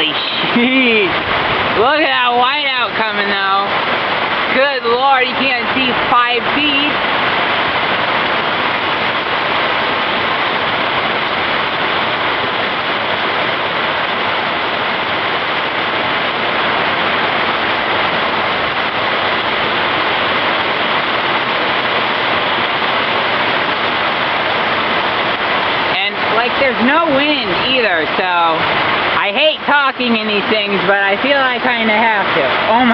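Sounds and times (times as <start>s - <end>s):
very heavy rain pouring: 0.0s - 32.9s.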